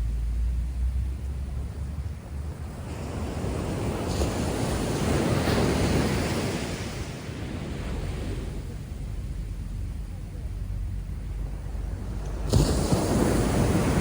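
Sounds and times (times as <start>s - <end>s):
wind rumble on microphone: 0.0s - 14.0s
waves breaking: 0.6s - 14.0s.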